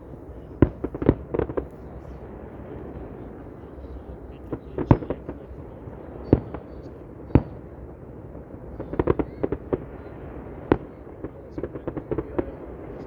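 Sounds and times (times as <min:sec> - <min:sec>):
background rush of noise: 0:00.0 - 0:13.0
fireworks bangs: 0:00.0 - 0:13.0.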